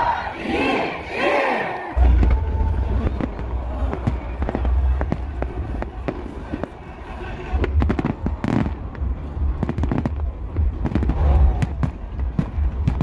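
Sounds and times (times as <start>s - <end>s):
fireworks bangs and crackles: 2.0s - 13.0s
low rumble: 2.0s - 13.0s.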